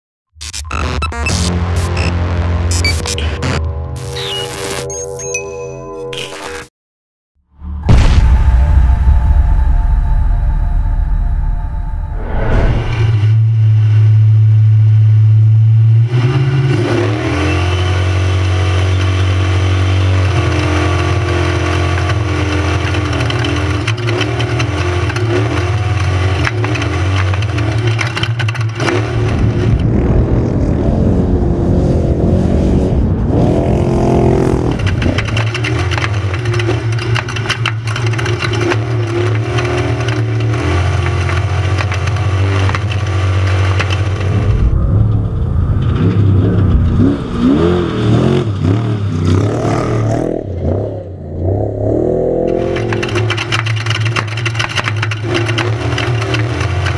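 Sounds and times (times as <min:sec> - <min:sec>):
truck engine revving: 0:07.6 - 0:56.9.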